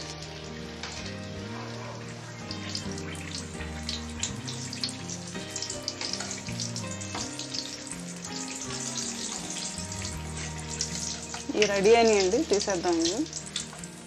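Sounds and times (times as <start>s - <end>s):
background music: 0.0s - 14.0s
chillies sizzling in hot oil: 0.0s - 14.0s.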